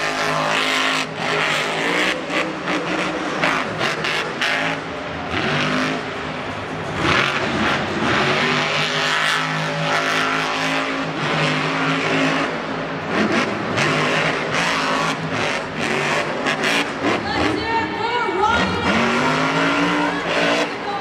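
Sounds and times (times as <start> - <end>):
truck engine at high revs: 0.0 - 17.7, 18.4 - 21.0.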